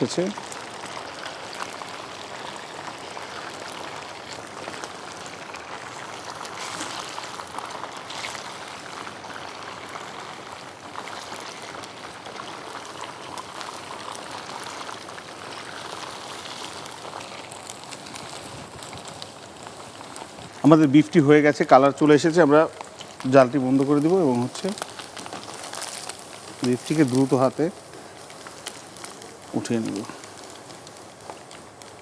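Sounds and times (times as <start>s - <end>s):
meat deep-frying in hot oil: 0.0s - 32.0s.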